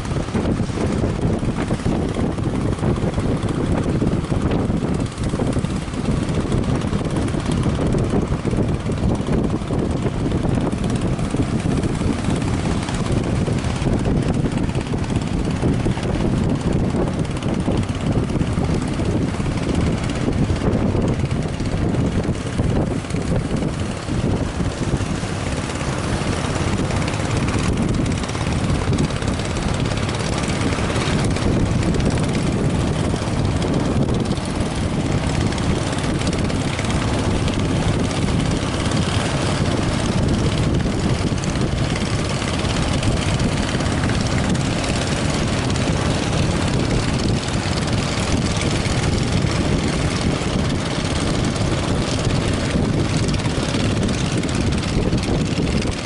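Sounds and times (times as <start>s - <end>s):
boat engine drone: 0.0s - 56.0s
wind buffeting microphone: 0.0s - 56.0s.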